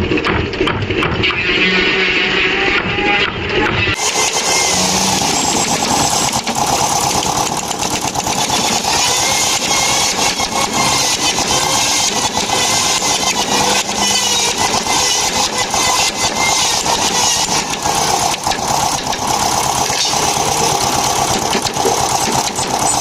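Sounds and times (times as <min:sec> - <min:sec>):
power tool motor rattling: 0:02.5 - 0:23.0.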